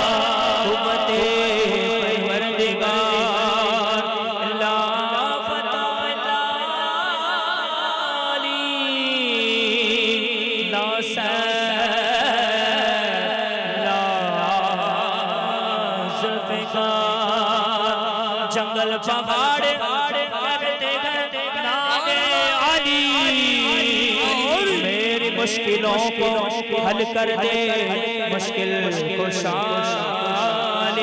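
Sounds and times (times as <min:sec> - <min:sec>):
man singing into microphone: 0:00.0 - 0:31.0.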